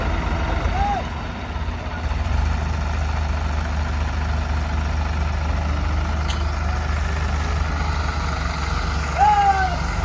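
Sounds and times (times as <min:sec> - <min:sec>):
tractor diesel engine rumbling: 0:00.0 - 0:10.0.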